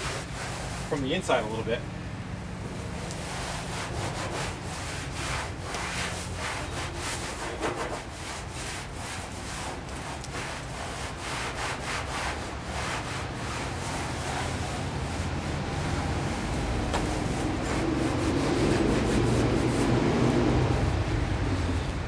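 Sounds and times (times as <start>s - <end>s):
sandpaper rubbing on metal: 0.0s - 1.1s, 3.0s - 21.3s.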